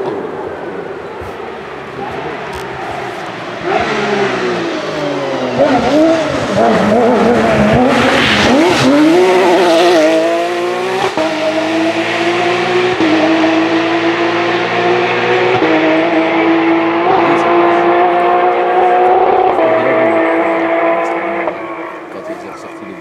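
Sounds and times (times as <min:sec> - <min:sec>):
car engine at high revs: 0:00.0 - 0:23.0.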